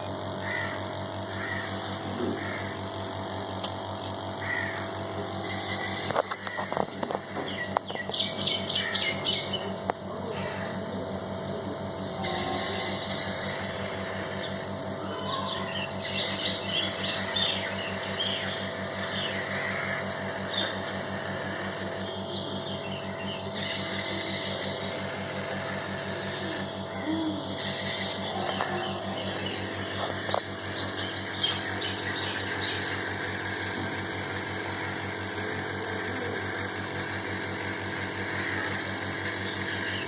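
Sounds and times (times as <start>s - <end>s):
steady electric hum: 0.0s - 40.0s.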